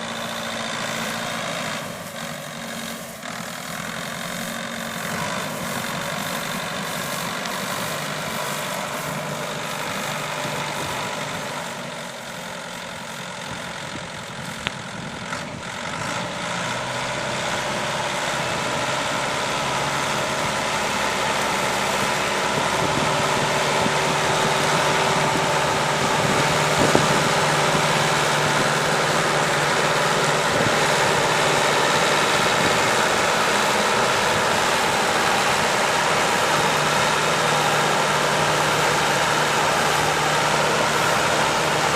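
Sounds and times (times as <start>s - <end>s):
hay baler engine running: 0.0s - 41.9s.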